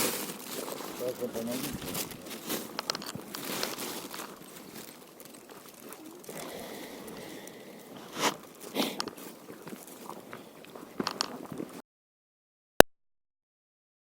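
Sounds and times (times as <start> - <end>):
crunching scrapes: 0.0 - 11.8.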